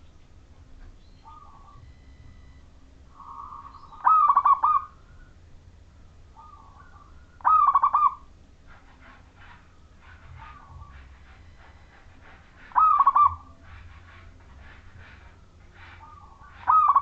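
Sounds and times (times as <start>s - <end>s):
dove cooing: 1.2s - 2.1s, 3.1s - 5.3s, 6.4s - 17.0s.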